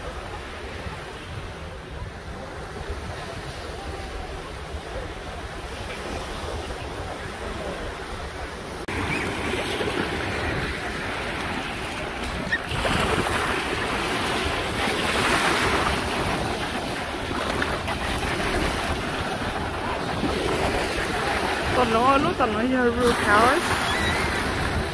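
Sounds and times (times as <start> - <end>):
waves washing over sand: 0.0 - 24.9
wind buffeting microphone: 0.1 - 24.9.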